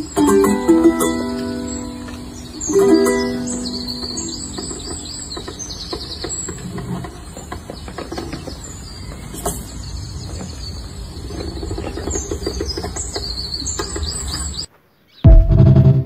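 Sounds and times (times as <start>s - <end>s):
small birds chirping: 0.0s - 15.3s.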